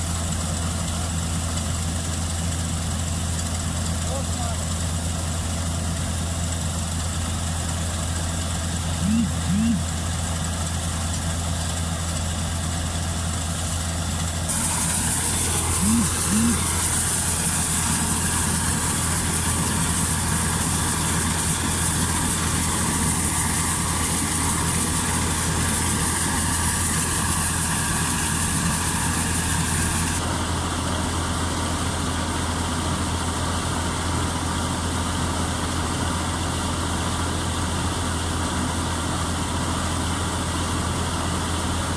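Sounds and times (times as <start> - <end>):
diesel engine humming: 0.0 - 36.6.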